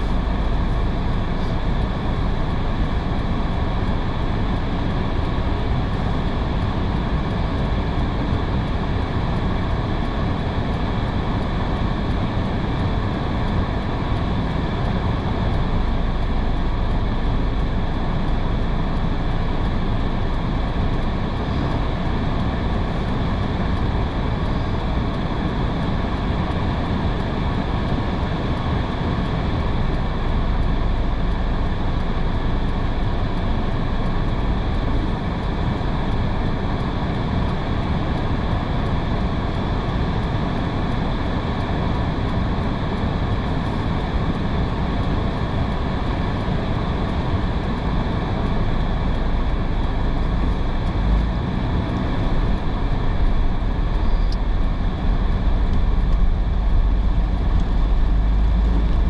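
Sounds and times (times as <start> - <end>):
rain: 0.0 - 59.0.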